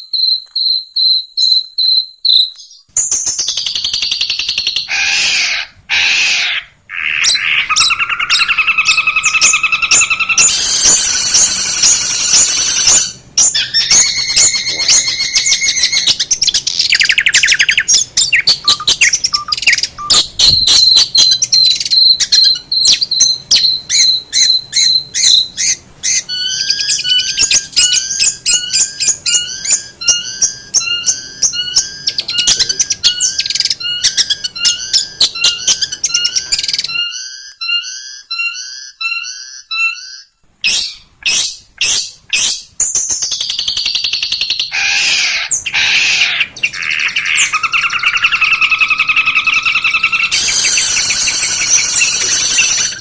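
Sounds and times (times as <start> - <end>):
bird singing: 0.0 - 53.0.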